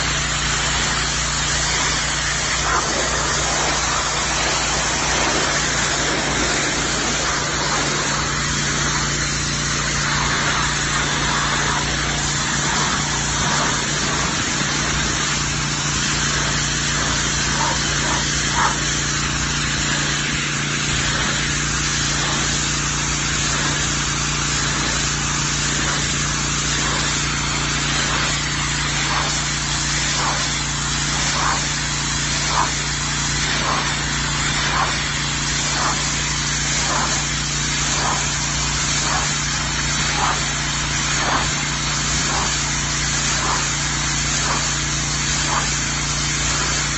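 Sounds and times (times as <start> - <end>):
engine hum: 0.0 - 46.9
high-pressure water hiss: 0.0 - 46.9.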